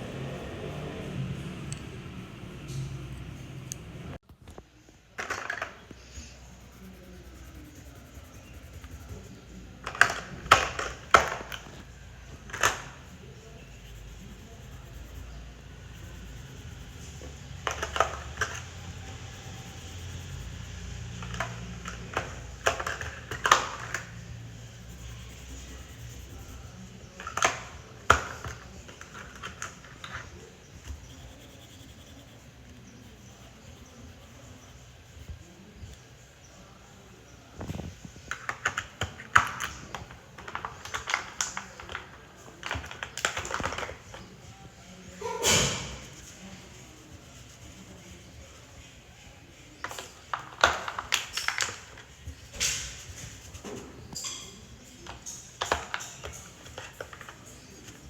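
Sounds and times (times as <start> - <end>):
art supplies clicking and tapping: 2.6 - 35.4, 37.6 - 44.4, 49.8 - 58.0.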